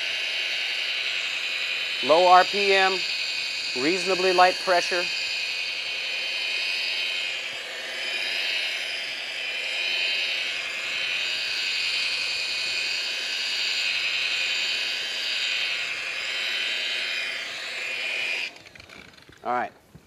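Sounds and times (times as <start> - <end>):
rotary polisher whining: 0.0 - 19.5.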